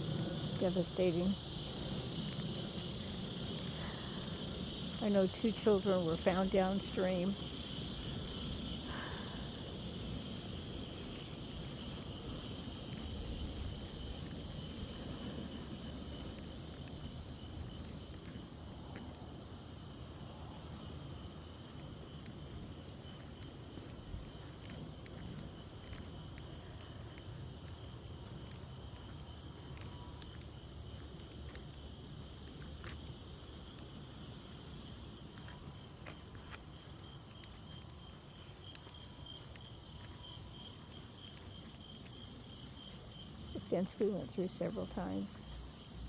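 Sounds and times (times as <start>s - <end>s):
insect chorus buzzing: 0.0s - 46.0s.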